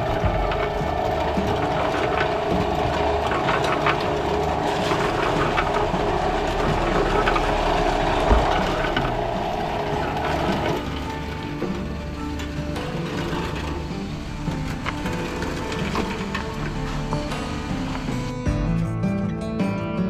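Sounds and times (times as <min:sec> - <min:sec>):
concrete and rocks rattling: 0:00.0 - 0:18.4
concrete mixer drum humming: 0:00.0 - 0:18.5.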